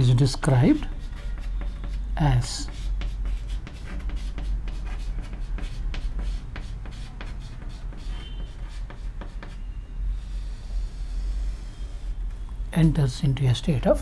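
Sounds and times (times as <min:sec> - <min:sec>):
chalk tapping and scratching: 0:00.0 - 0:12.2
chalk squeak: 0:00.0 - 0:12.4.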